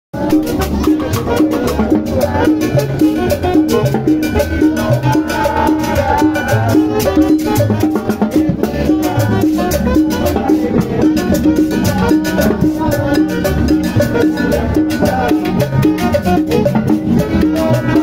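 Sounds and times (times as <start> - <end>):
latin dance music: 0.1 - 18.0.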